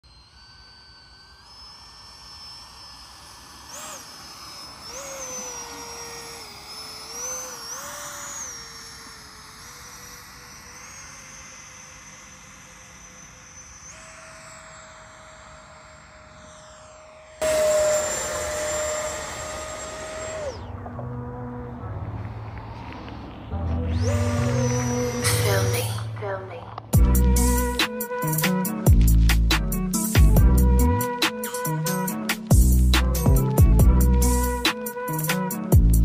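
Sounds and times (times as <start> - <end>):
electric ducted fan whining: 0.0 - 36.0.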